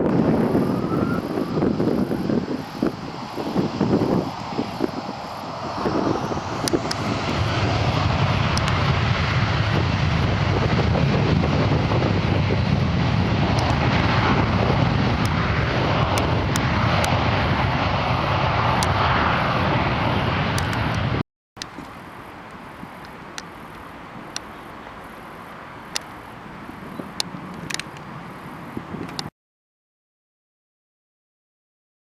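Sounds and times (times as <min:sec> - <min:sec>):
jet engines roaring: 0:00.0 - 0:29.3.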